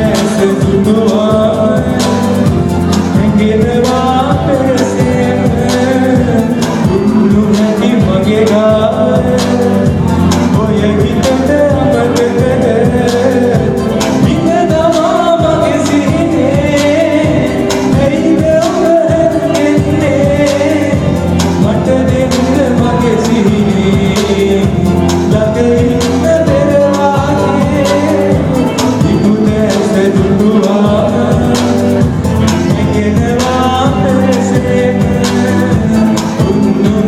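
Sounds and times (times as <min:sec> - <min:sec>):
electric guitar: 0:00.0 - 0:37.0
keyboard: 0:00.0 - 0:37.0
men singing into microphones: 0:00.0 - 0:37.0
steady beat: 0:00.0 - 0:37.0.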